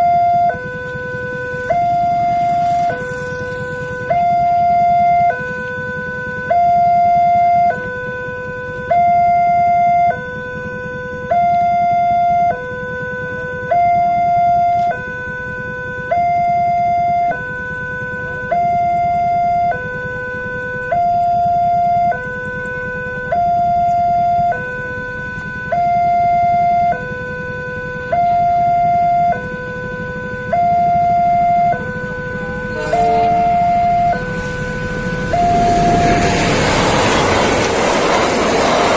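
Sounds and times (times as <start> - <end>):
two-tone warning siren: 0.0 - 38.9.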